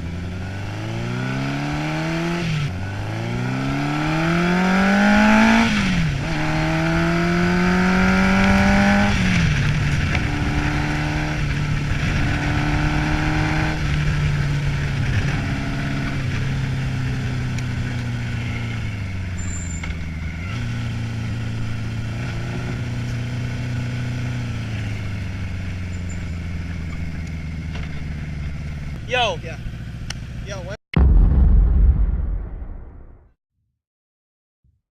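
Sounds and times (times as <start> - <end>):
motorcycle engine shifting gears: 0.0 - 30.4.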